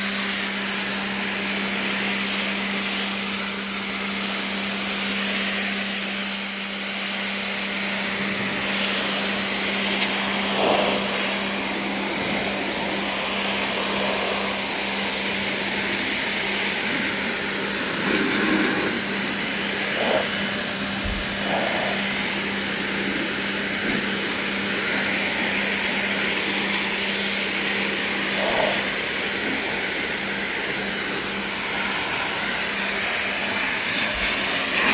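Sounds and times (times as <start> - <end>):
pressure washer jet hissing on paving: 0.0 - 34.9
pressure washer motor humming: 0.0 - 34.9.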